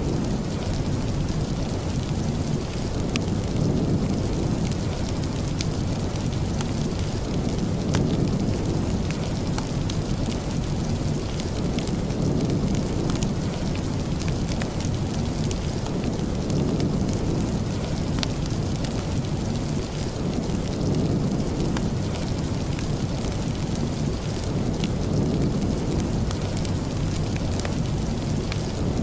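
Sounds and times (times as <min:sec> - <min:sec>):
heavy rain: 0:00.0 - 0:29.0
wood fire crackling: 0:00.0 - 0:29.0.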